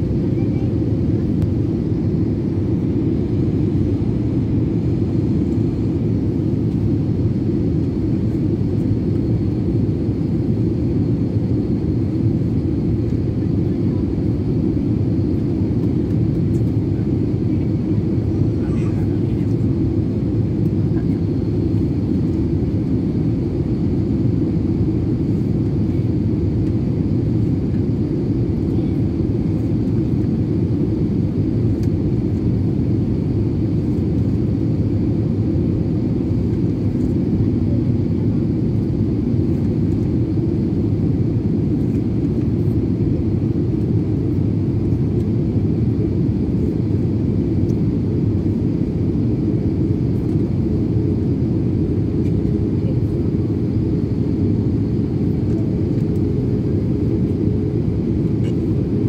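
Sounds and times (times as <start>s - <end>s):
airplane engine rumble: 0.0s - 59.0s.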